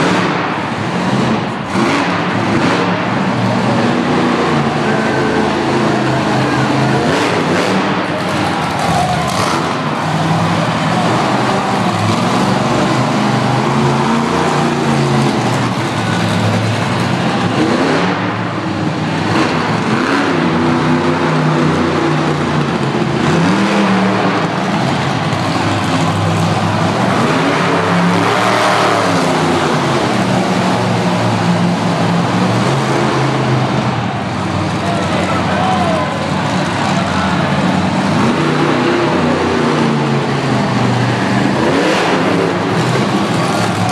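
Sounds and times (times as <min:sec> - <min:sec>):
truck engine revving hard: 0:00.0 - 0:43.9.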